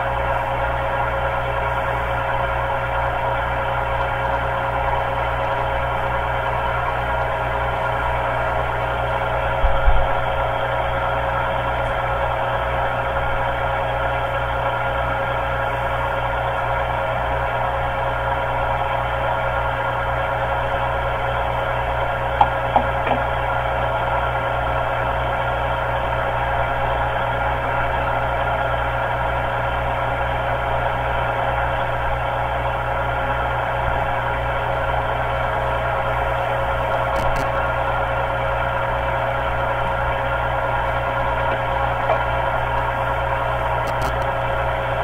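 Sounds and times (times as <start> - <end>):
metal lathe whining hum: 0.0 - 45.0.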